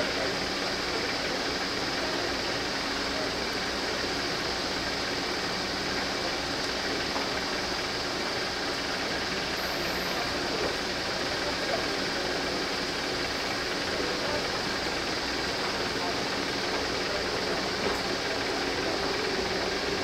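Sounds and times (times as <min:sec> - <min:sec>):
distant electric train rumble and hiss: 0:00.0 - 0:20.0.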